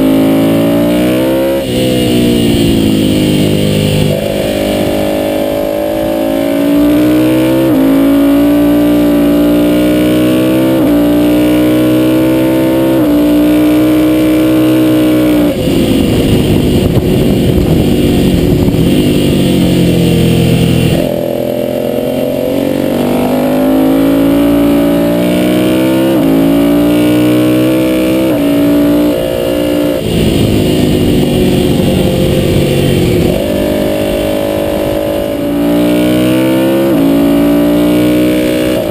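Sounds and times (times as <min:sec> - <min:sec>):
motorcycle downshifting and braking: 0:00.0 - 0:38.9
motorcycle engine at full throttle: 0:00.0 - 0:38.9.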